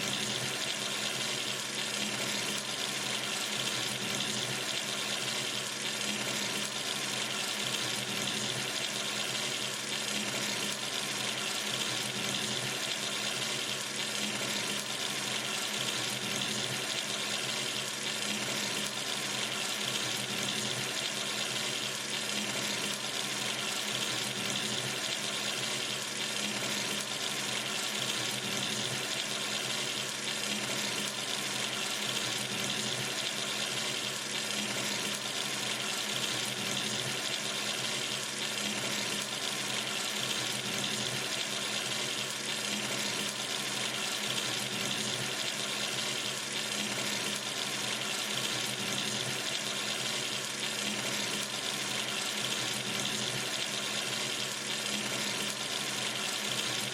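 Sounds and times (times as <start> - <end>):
water running from sink tap: 0.0 - 56.9.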